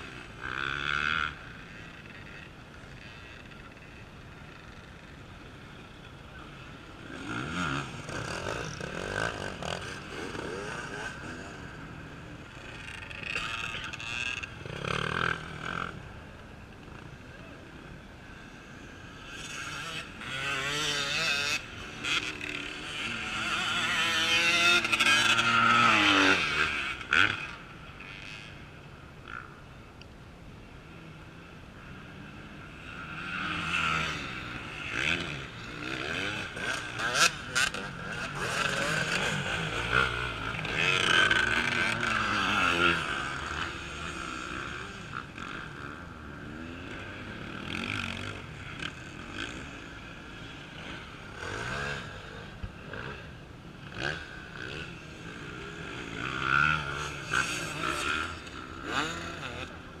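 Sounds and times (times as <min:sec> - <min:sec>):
motorcycle engines revving: 0:00.0 - 1:00.0.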